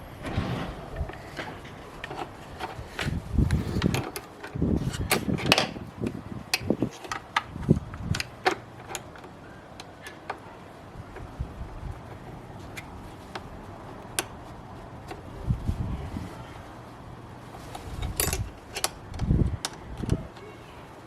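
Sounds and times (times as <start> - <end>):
parts clicking and rattling: 0.0 - 15.3, 17.4 - 21.0.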